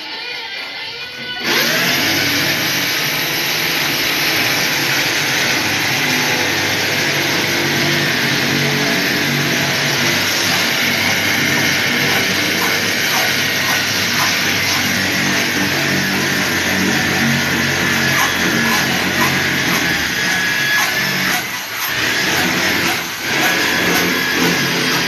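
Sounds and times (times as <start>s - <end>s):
engine-driven machine running: 1.4s - 25.0s.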